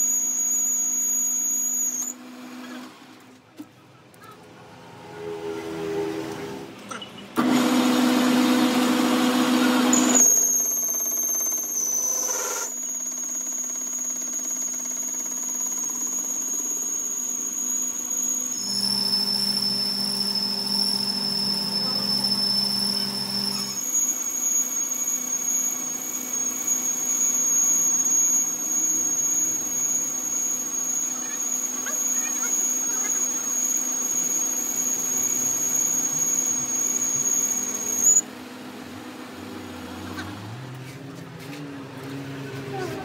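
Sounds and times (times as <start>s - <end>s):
metal lathe squealing: 0.0s - 2.2s, 5.0s - 38.2s.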